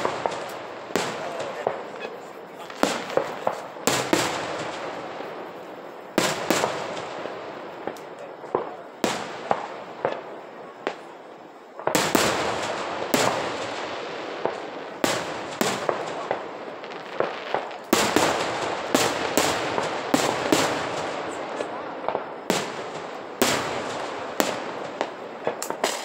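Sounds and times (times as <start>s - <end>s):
fireworks bursting with echo: 0.0s - 26.0s.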